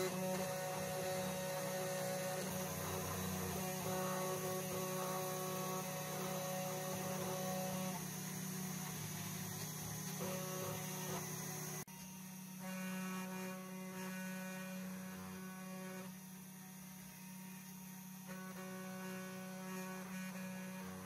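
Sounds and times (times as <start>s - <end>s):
high whine of moving axes: 0.0s - 21.0s
spindle motor humming: 0.0s - 21.0s.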